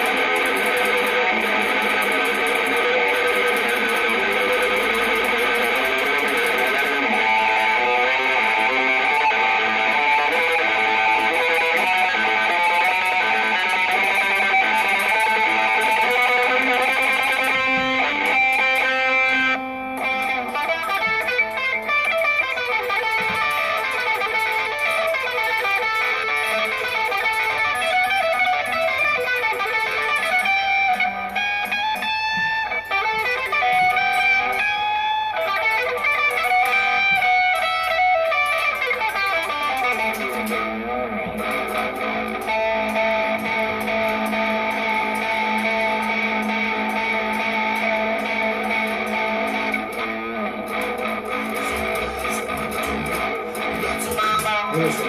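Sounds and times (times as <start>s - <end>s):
electric guitar playing: 0.0s - 55.0s.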